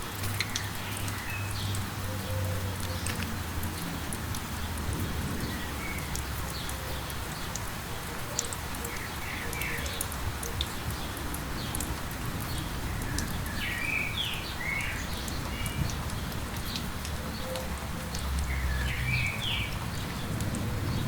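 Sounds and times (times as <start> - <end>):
light rain falling: 0.0 - 21.0
raindrops ticking: 0.0 - 21.0.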